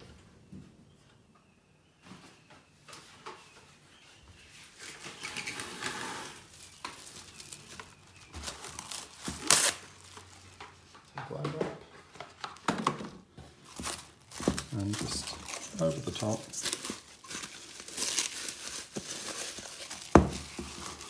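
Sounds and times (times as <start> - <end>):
cling wrap rustling and crinkling: 3.0 - 12.7, 13.4 - 21.0.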